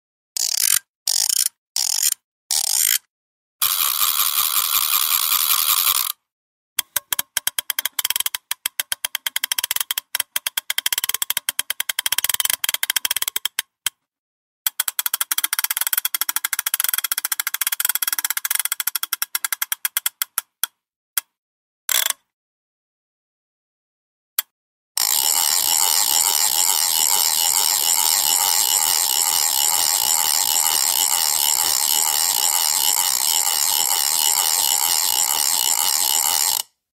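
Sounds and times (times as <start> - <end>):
ratchet clicking: 0.4 - 6.2, 6.8 - 13.7, 14.7 - 20.5, 21.9 - 22.2, 25.0 - 36.8.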